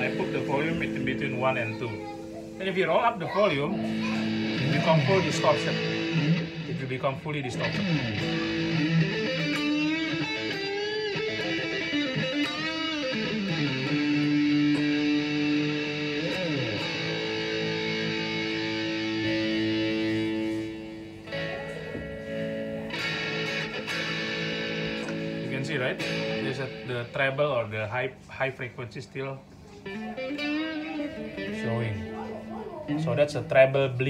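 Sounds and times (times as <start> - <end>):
distorted electric guitar lead: 0.0 - 27.6, 29.5 - 34.0.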